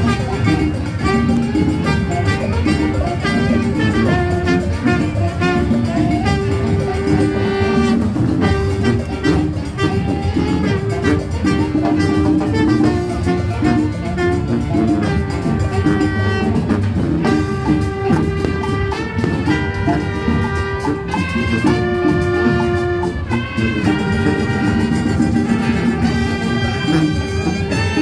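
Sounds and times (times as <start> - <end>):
brass melody: 0.0 - 28.0
steady drumming: 0.0 - 28.0.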